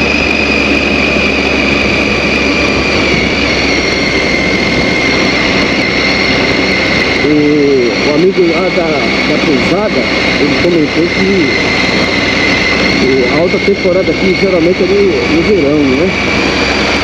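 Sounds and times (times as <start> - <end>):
high whine: 0.0 - 17.0
motorcycle engine and road noise: 0.0 - 17.0.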